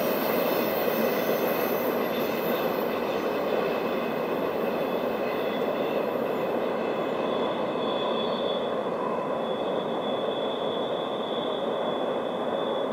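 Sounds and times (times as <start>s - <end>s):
high-pitched wheel squeal: 0.0s - 3.4s, 4.8s - 12.9s
steel wheels rumbling on rail: 0.0s - 12.9s.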